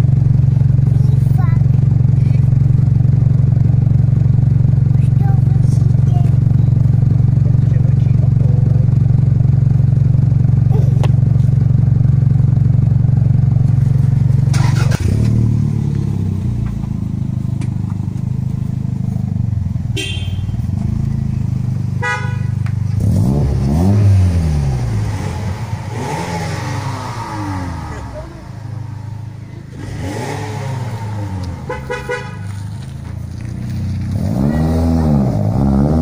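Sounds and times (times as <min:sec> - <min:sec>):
car engine idling: 0:00.0 - 0:36.0
car engine revving: 0:00.0 - 0:36.0.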